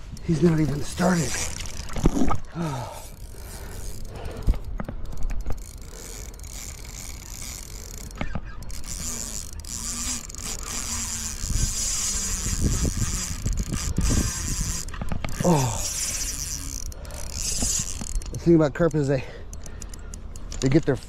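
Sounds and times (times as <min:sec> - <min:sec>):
reel and rod clicks and knocks: 0:00.0 - 0:21.0
fishing reel drag buzzing: 0:00.1 - 0:20.8.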